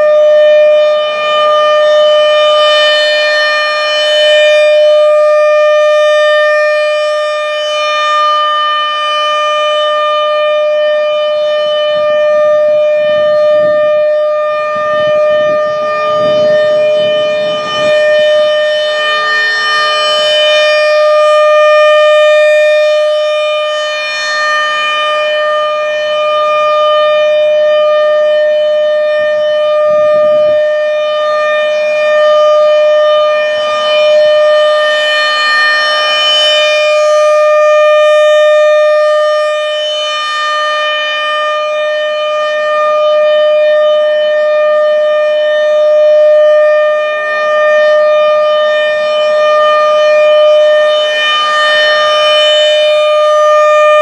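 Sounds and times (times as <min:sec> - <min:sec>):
rotating siren steady tone: 0:00.0 - 0:54.0.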